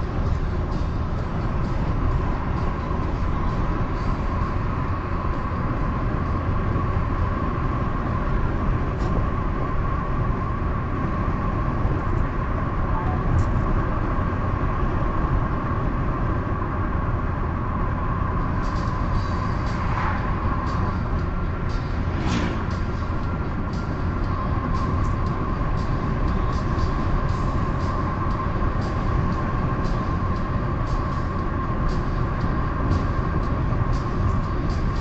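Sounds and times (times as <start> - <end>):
tyres rumbling on road: 0.0 - 35.0.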